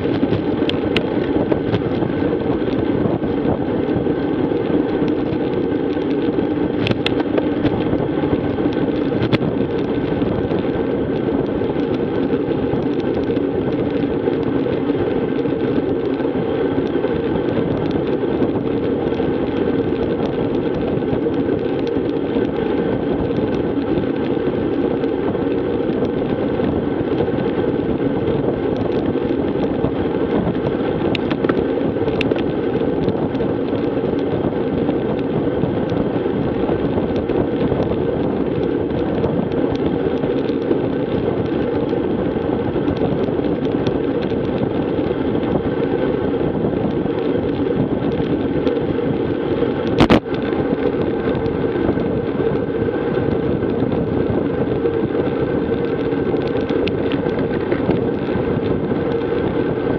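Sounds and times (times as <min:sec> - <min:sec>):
bicycle tyres on gravel: 0:00.0 - 0:59.9
wind buffeting microphone: 0:00.0 - 0:59.9.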